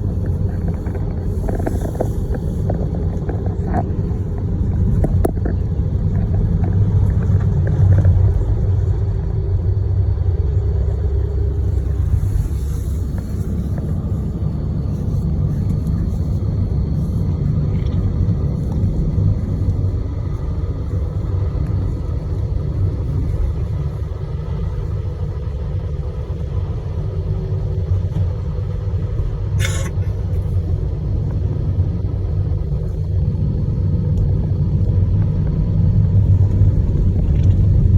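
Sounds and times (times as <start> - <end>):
car engine and tyre rumble: 0.0 - 37.9.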